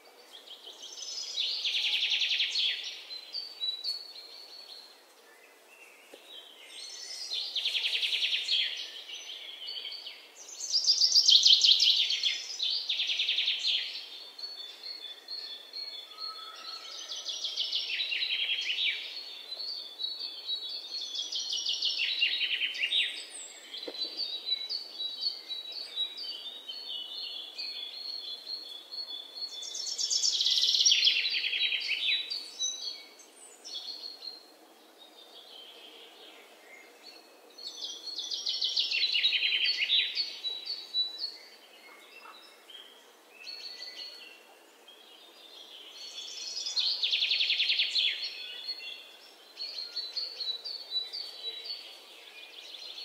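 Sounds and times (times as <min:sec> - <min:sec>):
small birds chirping and trilling: 0:00.0 - 0:53.0.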